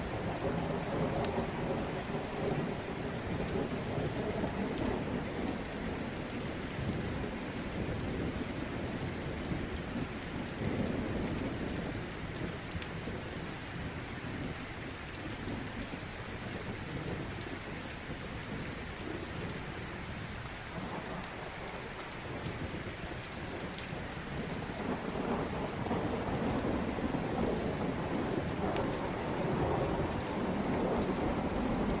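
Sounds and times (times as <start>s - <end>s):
low rolling thunder: 0.0s - 14.5s, 20.7s - 32.0s
steady rain: 0.0s - 32.0s.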